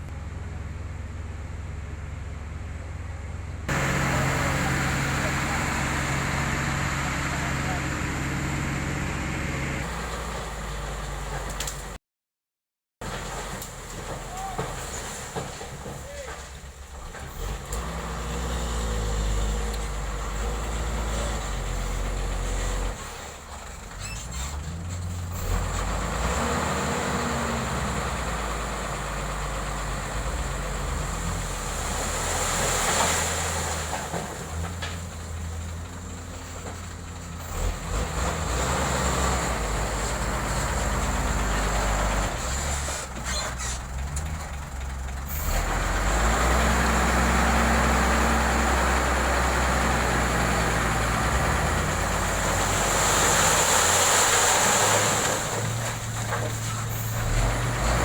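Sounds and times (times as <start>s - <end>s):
diesel engine running under load: 0.0s - 12.0s, 13.0s - 58.0s.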